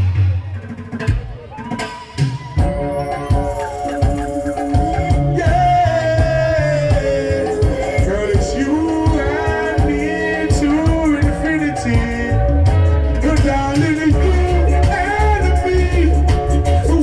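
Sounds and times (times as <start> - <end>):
live reggae band: 0.0 - 17.0.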